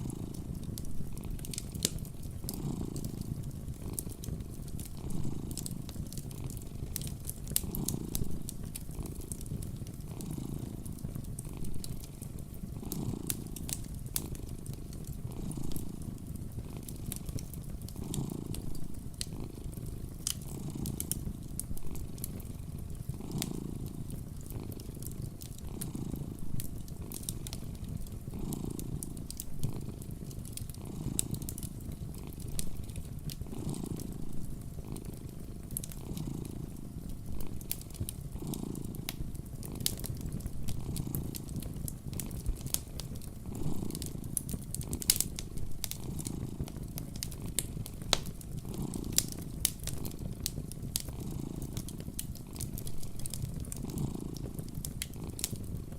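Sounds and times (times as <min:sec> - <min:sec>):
cat purring: 0:00.0 - 0:55.9
wood fire crackling and popping: 0:00.0 - 0:55.9.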